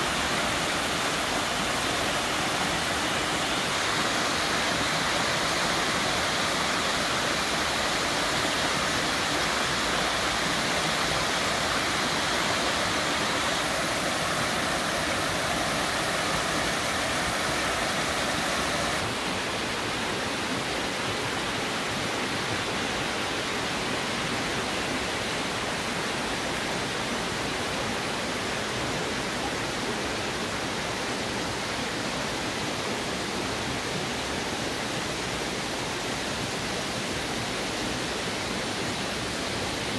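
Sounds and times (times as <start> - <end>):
stream flowing among boulders: 0.0 - 39.9
waterfall rushing: 0.0 - 39.9.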